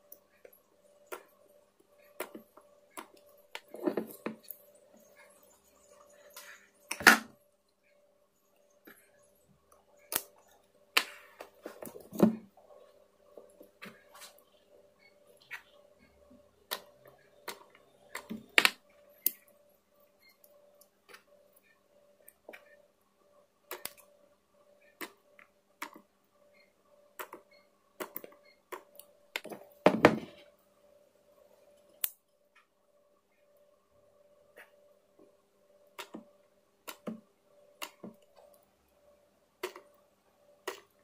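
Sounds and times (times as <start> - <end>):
faint electrical hum: 0.0 - 41.0.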